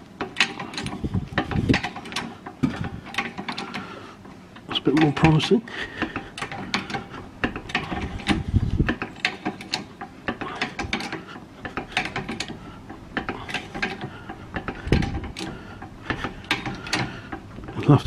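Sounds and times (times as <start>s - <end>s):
trolley jack clicking: 0.0s - 18.0s.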